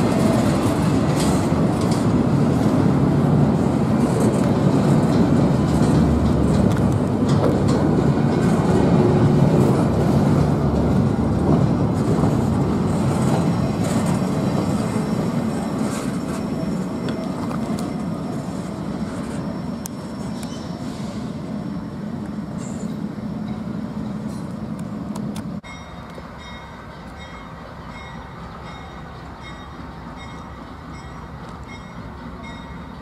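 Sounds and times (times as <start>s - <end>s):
freight train rumbling: 0.0s - 33.0s.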